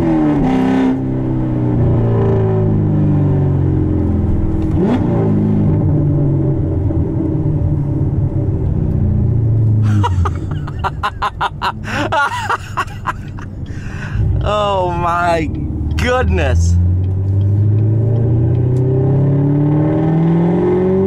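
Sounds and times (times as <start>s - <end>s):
loud engine droning: 0.0s - 21.0s.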